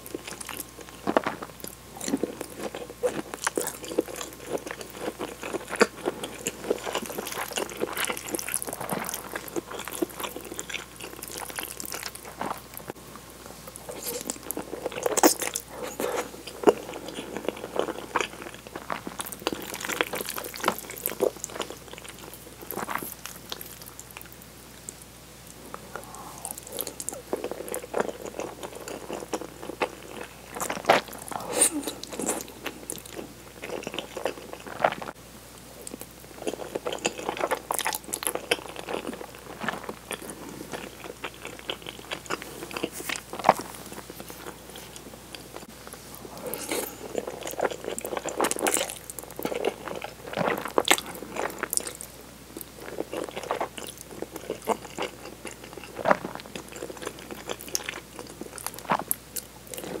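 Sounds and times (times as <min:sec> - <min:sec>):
close chewing and mouth clicks: 0:00.0 - 0:13.0, 0:13.7 - 0:35.2, 0:35.8 - 1:00.0.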